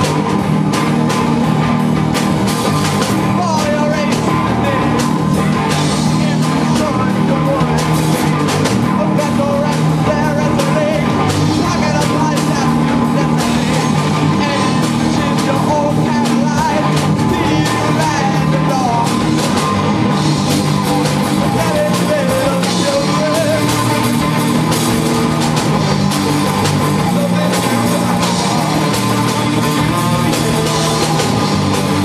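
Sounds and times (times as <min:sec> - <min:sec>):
drum kit with crashing cymbals: 0:00.0 - 0:32.0
electric guitar: 0:00.0 - 0:32.0.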